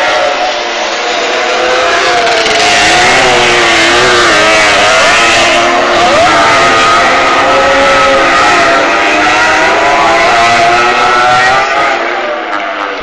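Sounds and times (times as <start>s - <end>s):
racing sidecar engines revving: 0.0s - 13.0s.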